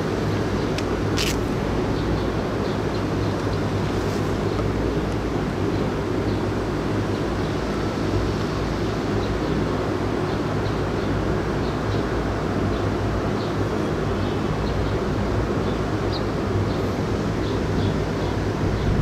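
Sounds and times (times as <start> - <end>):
low background rumble and hum: 0.0 - 19.0
small birds chirping: 0.3 - 19.0.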